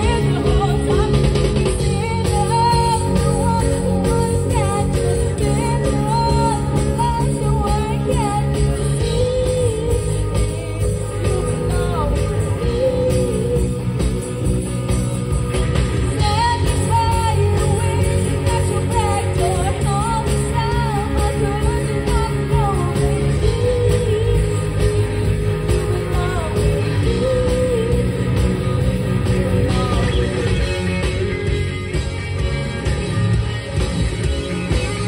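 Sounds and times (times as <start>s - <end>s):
woman singing: 0.0s - 14.5s, 16.2s - 30.7s
drum kit: 0.0s - 35.0s
electric guitars: 0.0s - 35.0s.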